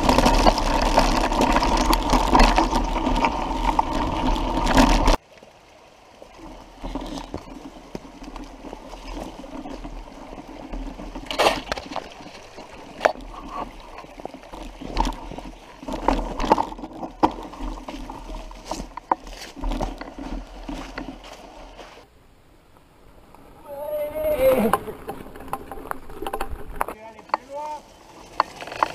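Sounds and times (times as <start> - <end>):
bike rattles and knocks: 0.0 - 5.2, 6.8 - 22.0, 24.7 - 28.9.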